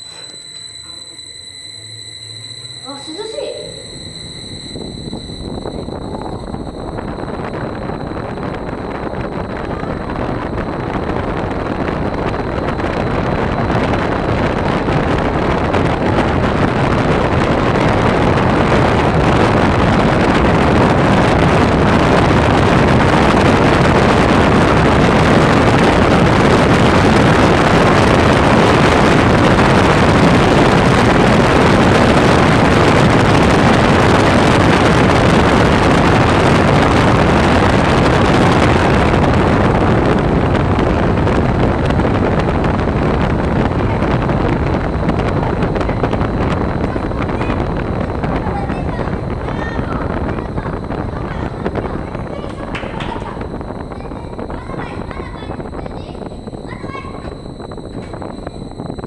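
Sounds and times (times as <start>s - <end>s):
strong wind on microphone: 0.0s - 59.0s.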